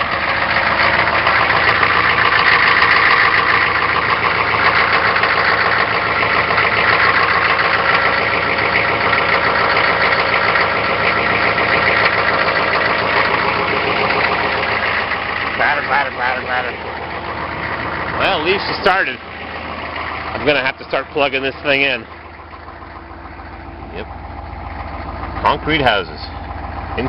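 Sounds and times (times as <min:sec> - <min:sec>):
diesel engine idling with clatter: 0:00.0 - 0:27.0.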